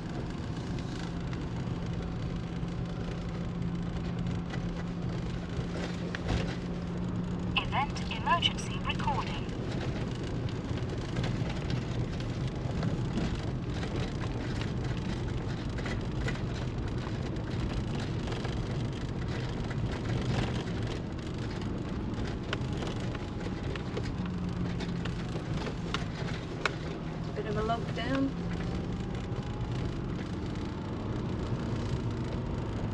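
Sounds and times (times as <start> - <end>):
low engine hum: 0.0 - 32.9.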